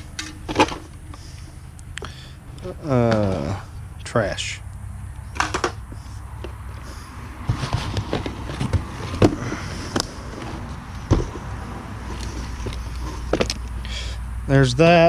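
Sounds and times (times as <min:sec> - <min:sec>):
knocks and clicks of junk: 0:00.0 - 0:03.8, 0:05.2 - 0:14.2
steady low hum: 0:00.0 - 0:15.0.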